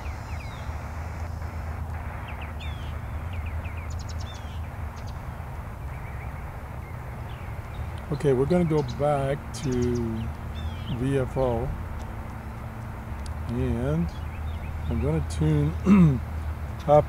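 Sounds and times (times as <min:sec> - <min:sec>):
birds chirping: 0:00.0 - 0:17.0
radio static hissing: 0:00.0 - 0:17.0.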